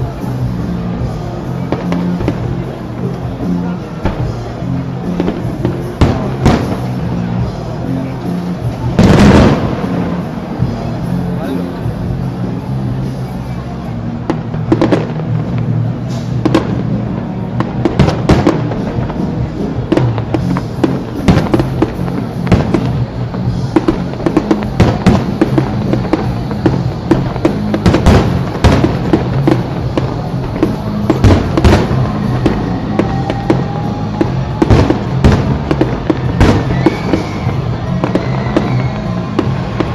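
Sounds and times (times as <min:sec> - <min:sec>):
fireworks bangs: 0:00.0 - 0:13.6, 0:14.2 - 0:39.9
music playing: 0:00.0 - 0:39.9.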